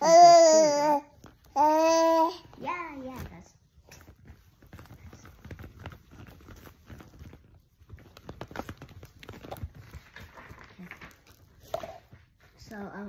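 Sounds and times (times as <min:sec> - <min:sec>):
faint rustling: 0:00.0 - 0:13.0.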